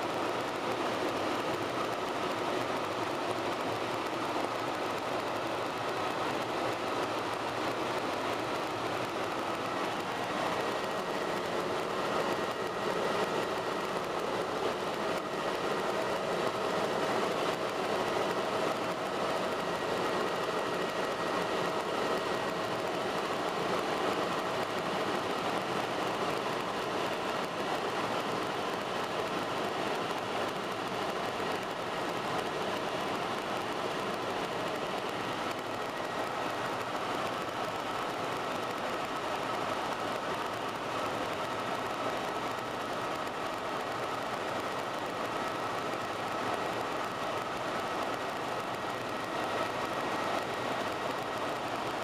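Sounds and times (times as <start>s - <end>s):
helicopter drone: 0.0s - 52.0s.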